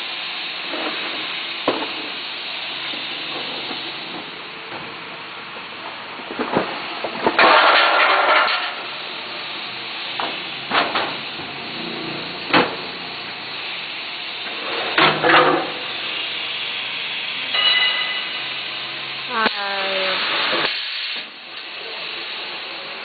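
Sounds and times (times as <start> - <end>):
water bottle filling machine hiss: 0.0 - 23.0.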